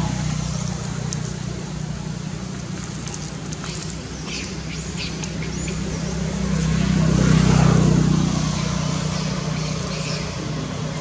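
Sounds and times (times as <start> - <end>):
vehicle passing: 0.0 - 11.0.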